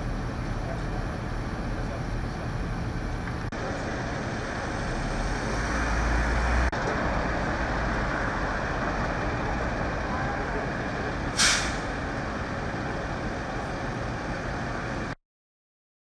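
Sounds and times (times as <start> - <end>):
street traffic noise: 0.0 - 15.2
truck engine running: 0.0 - 15.2.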